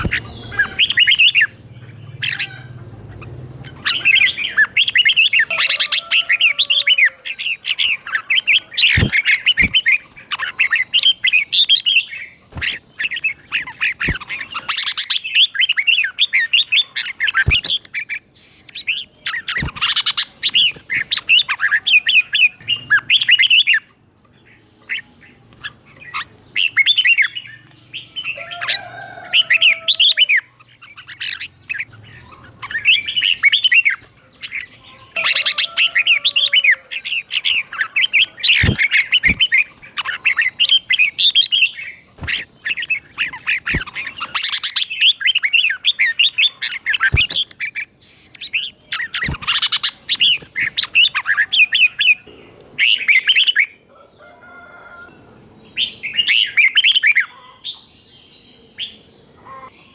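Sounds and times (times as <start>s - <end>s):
bird singing warbled phrases: 0.0s - 53.9s, 54.9s - 59.9s.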